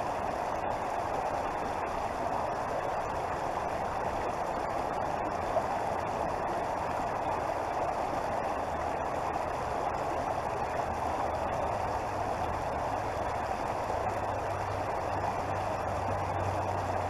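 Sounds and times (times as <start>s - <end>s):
creek water flowing: 0.0s - 17.0s
low steady hum: 0.0s - 17.0s.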